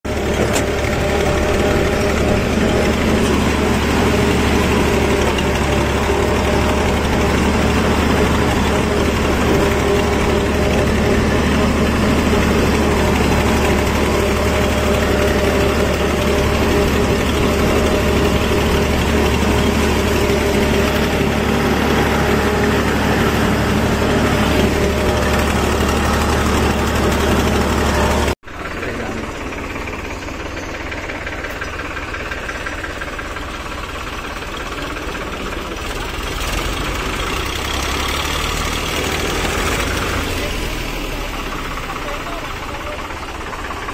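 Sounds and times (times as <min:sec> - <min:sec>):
tractor diesel engine running: 0:00.0 - 0:43.9
quieter engine sound: 0:00.1 - 0:43.9.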